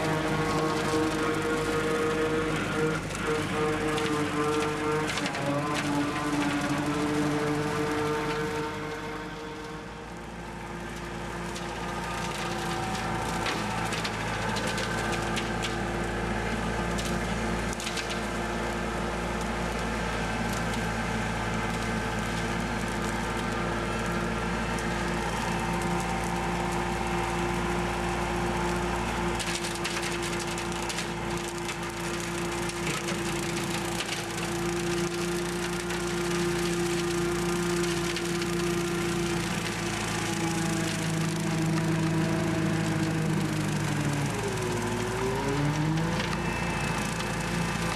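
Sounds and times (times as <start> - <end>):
stems crackling and snapping: 0.0 - 47.9
tractor engine running: 0.0 - 47.9.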